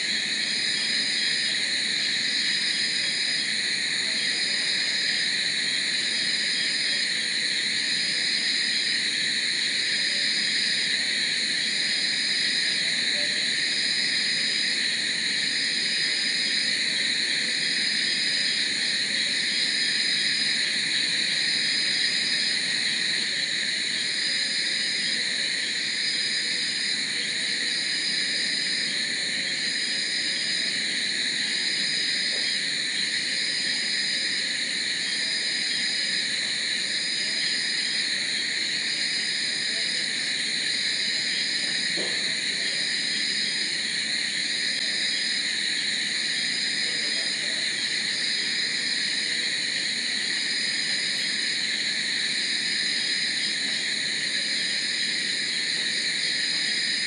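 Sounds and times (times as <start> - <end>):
crickets and insects chirping: 0.0 - 57.0.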